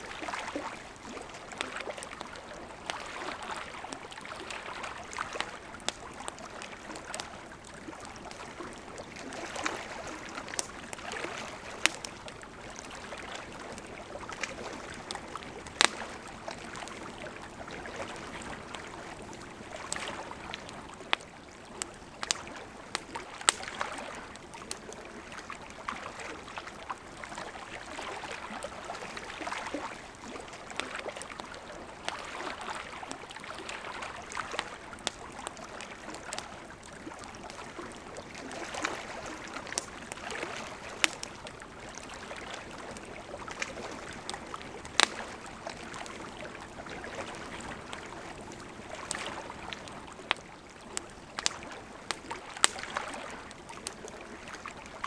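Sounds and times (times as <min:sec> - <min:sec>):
fire crackles and pops: 0:00.0 - 0:54.6.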